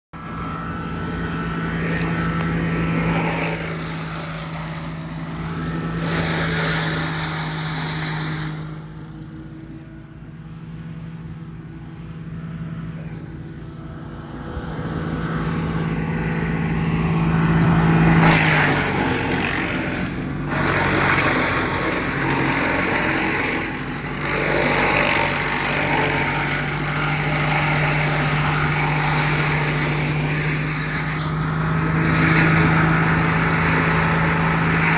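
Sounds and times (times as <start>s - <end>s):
wood chipper engine running: 0.2s - 34.9s.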